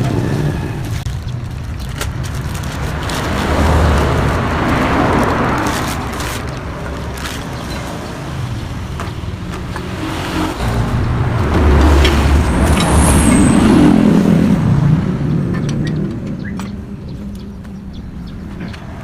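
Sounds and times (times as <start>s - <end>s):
vehicle engine passing by: 2.6s - 19.0s.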